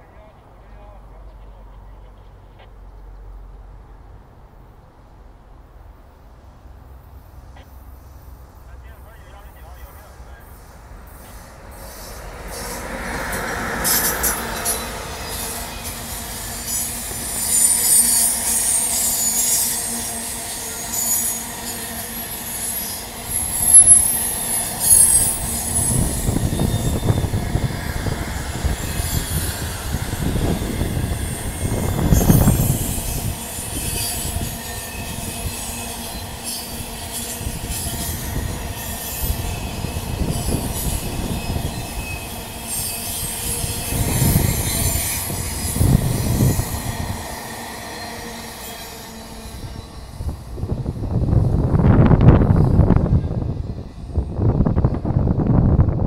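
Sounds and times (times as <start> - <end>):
train wheel squeal: 7.7 - 55.5
train wheels rumbling and clattering: 9.8 - 56.0.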